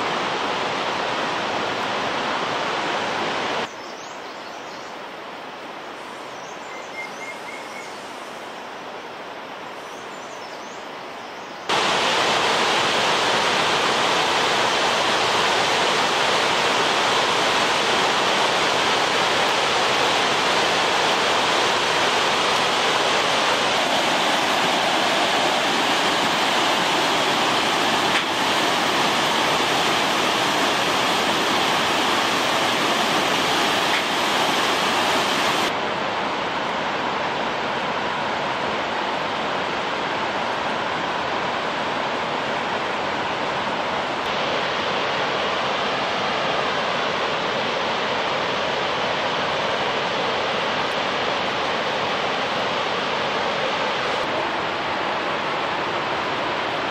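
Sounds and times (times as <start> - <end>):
white-water river over boulders: 0.0 - 3.7, 11.7 - 56.9.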